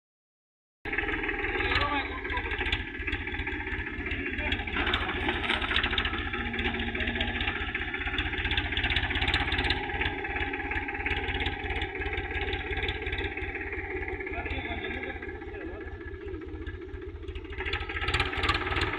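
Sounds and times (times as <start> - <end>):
tractor engine chugging: 0.9 - 18.9.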